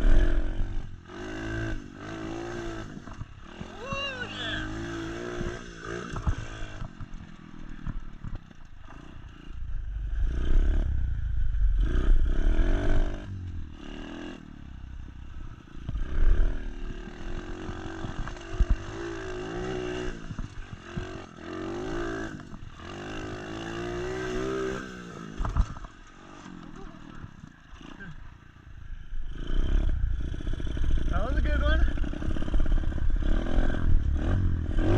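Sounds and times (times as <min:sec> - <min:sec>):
motorbike engine revving: 0:00.0 - 0:28.4, 0:29.0 - 0:34.9.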